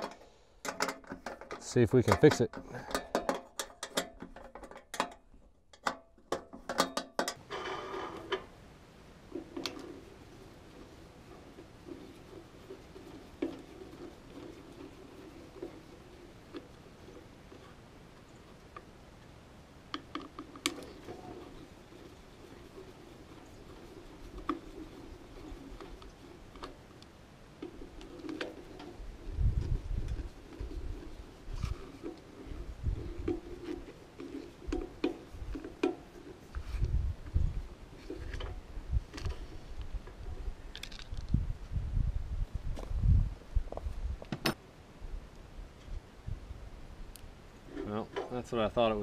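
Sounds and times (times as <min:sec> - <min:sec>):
scraping: 0:00.0 - 0:08.6, 0:09.2 - 0:18.9, 0:20.0 - 0:41.4.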